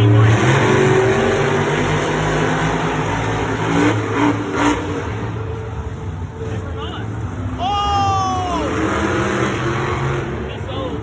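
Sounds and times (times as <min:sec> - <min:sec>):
truck engines at high revs: 0:00.0 - 0:11.0.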